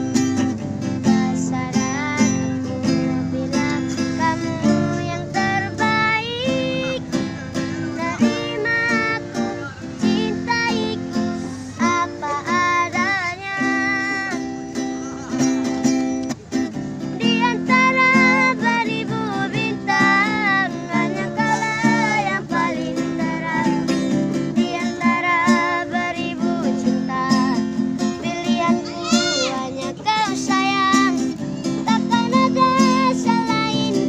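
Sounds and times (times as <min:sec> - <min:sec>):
strummed acoustic guitar: 0:00.0 - 0:34.0
child singing: 0:00.8 - 0:15.8, 0:17.0 - 0:34.0.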